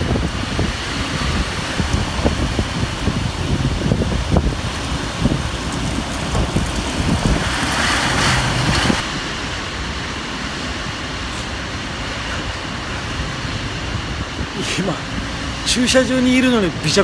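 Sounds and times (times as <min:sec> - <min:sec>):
wind buffeting microphone: 0:00.0 - 0:15.6
heavy rain: 0:00.0 - 0:17.0
strong gusting wind: 0:00.0 - 0:17.0.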